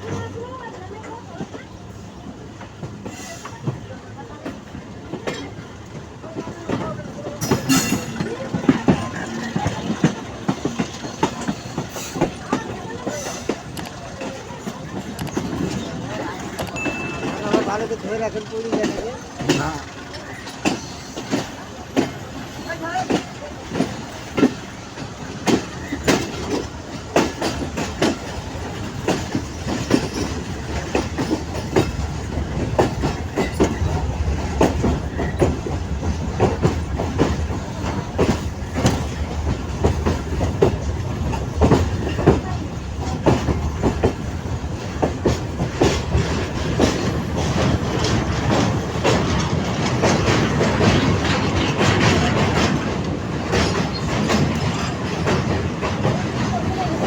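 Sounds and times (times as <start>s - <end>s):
train rumbling on rails: 0.0s - 57.0s
wheels clacking over rail joints: 0.0s - 57.0s.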